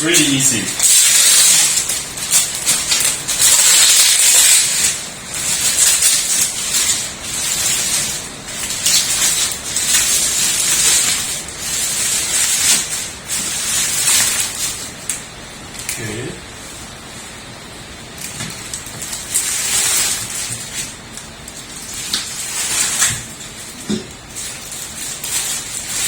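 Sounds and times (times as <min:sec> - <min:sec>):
plastic film ripping and crinkling: 0:00.0 - 0:16.2, 0:18.1 - 0:26.0.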